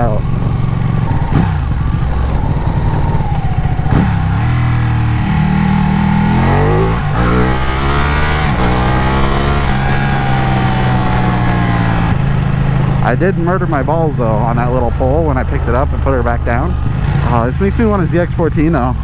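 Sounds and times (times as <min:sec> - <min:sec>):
wind rush: 0:00.0 - 0:15.9
motorcycle engine accelerating: 0:00.0 - 0:19.0.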